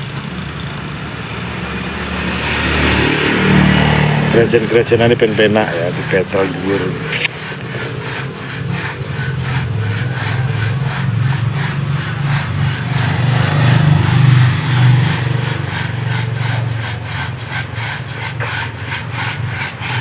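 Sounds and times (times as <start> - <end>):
low drone: 1.1 - 17.8
crosscut saw rasping through wood: 1.5 - 20.0.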